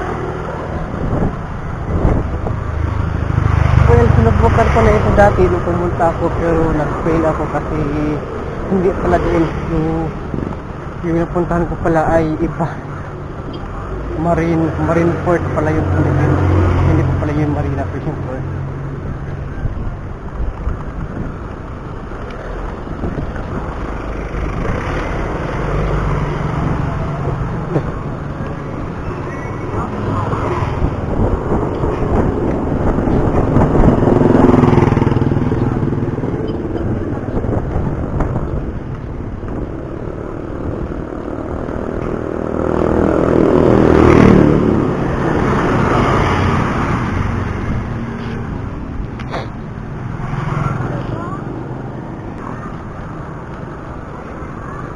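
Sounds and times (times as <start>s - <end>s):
bicycle road noise: 0.0s - 54.9s
passing motor traffic: 0.0s - 54.9s
vehicle engine hum: 0.0s - 54.9s
wind rushing over microphone: 0.0s - 54.9s.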